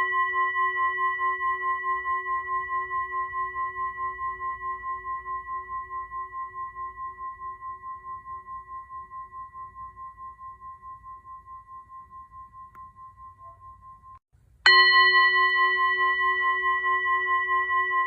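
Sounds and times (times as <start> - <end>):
ringing metal tone: 0.0 - 18.0.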